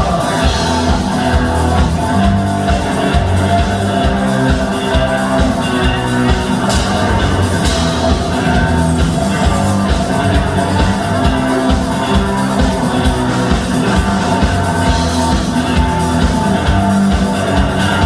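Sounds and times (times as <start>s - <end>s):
drum kit steady beat: 0.0s - 18.0s
rock band playing instrumental: 0.0s - 18.0s.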